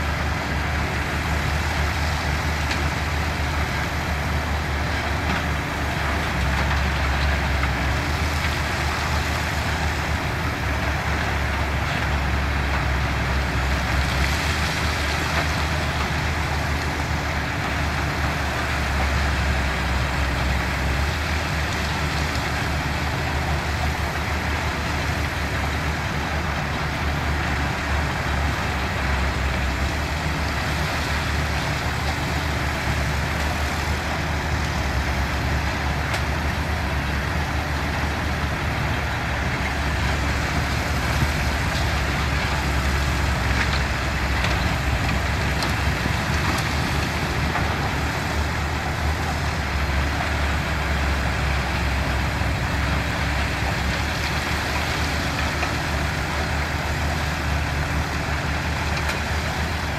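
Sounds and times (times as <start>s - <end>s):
heavy diesel machinery drone: 0.0s - 59.9s.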